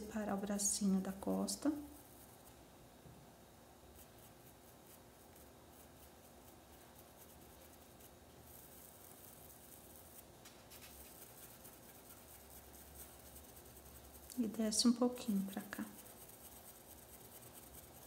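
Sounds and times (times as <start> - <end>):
paintbrush scratching on fabric: 0.6 - 2.7, 3.8 - 18.0.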